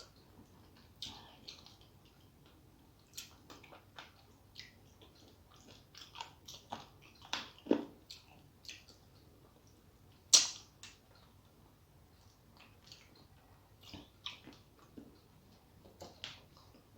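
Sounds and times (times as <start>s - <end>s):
wet chewing and mouth sounds: 0.0s - 16.9s.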